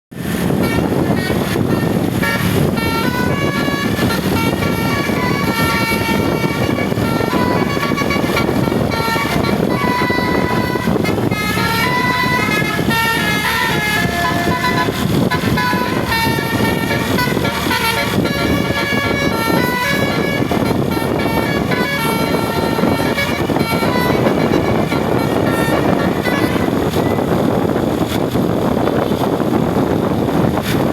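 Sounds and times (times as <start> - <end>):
engine and road rumble: 0.1 - 30.9
bus horn playing a tune: 0.2 - 29.6.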